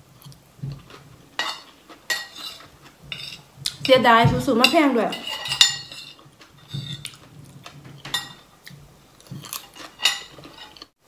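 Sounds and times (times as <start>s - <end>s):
soft eating sounds: 0.0s - 11.0s.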